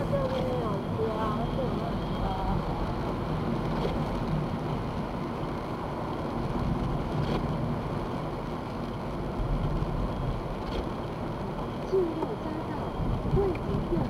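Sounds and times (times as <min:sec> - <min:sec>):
car road and tyre noise in rain: 0:00.0 - 0:14.0.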